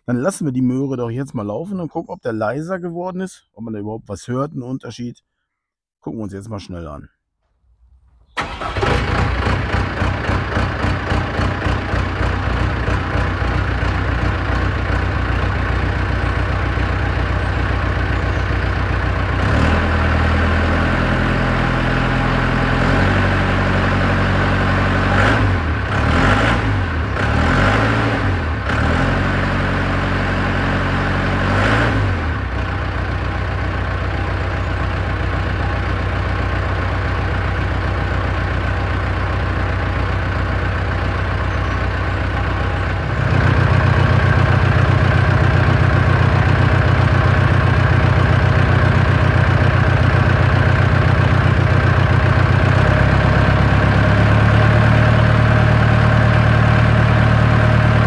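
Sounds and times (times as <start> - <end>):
diesel engine idling and revving: 8.4 - 58.0.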